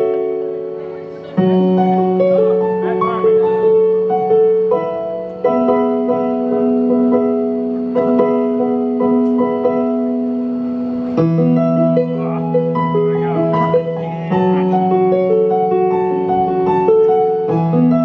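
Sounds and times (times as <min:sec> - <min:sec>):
slow solo piano chords: 0:00.0 - 0:18.0.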